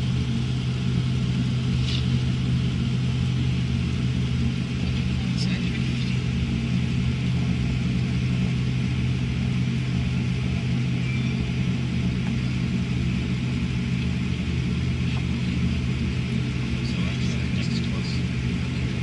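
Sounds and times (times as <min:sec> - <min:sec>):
airliner cabin hum: 0:00.0 - 0:19.0.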